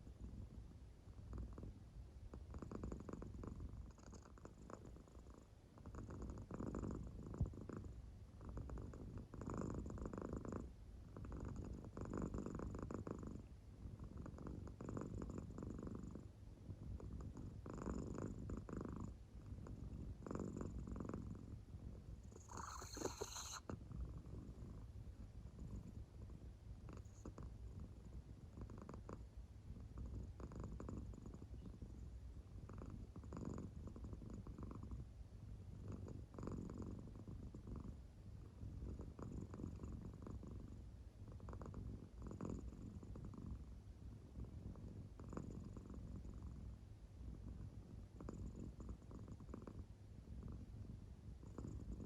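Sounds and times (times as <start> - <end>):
cat purring: 0.0 - 52.0.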